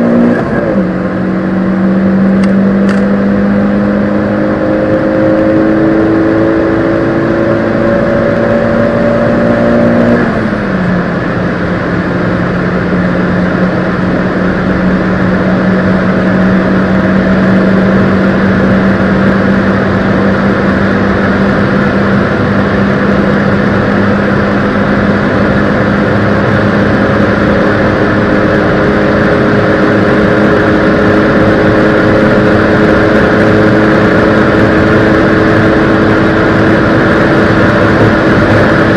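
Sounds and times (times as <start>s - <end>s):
car engine accelerating: 0.0s - 38.9s
road and wind noise: 0.0s - 38.9s.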